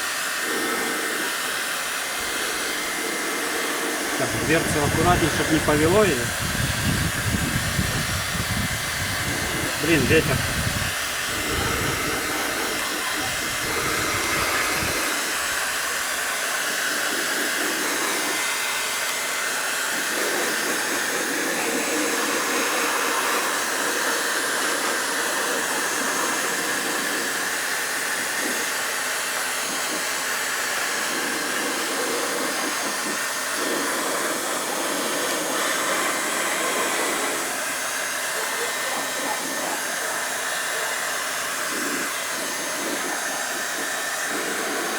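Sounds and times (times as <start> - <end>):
heat gun blowing hot air: 0.0 - 44.9.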